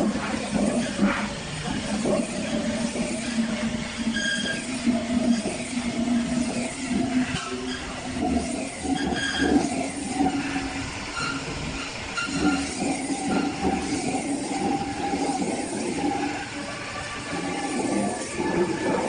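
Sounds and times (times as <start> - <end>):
metal spinning machine hum: 0.0 - 19.0.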